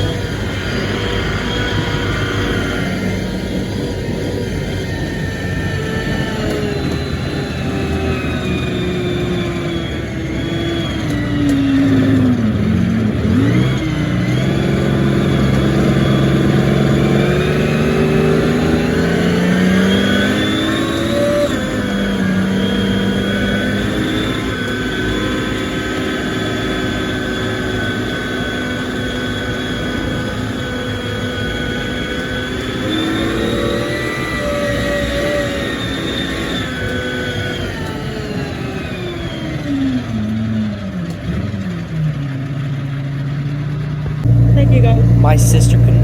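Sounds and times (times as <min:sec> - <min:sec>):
motor engine revving: 0:00.0 - 0:46.0.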